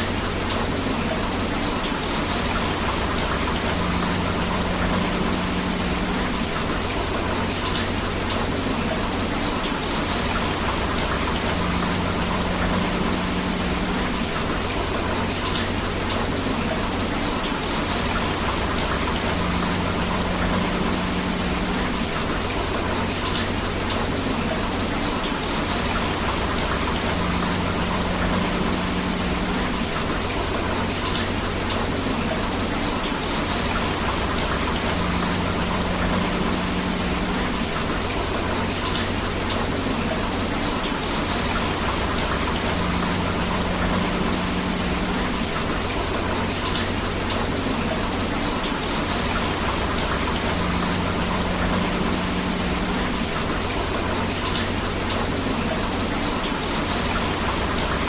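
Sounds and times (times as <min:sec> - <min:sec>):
flowing river water: 0:00.0 - 0:58.0
steady rain: 0:00.0 - 0:58.0.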